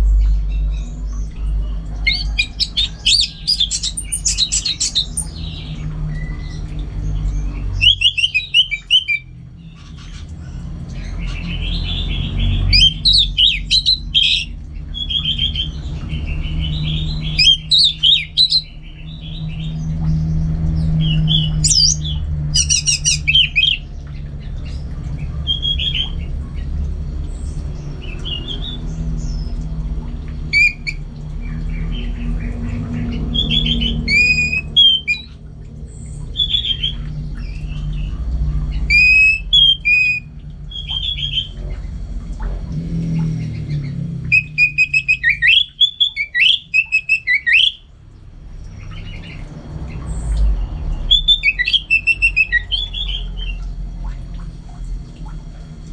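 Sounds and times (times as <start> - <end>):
steady low hum: 0.0 - 46.9, 47.8 - 55.9.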